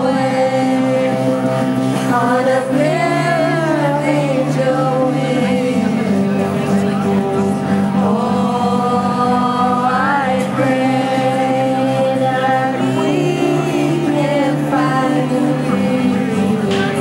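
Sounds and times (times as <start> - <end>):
sustained keyboard chords: 0.0 - 17.0
woman singing into microphone: 0.0 - 17.0.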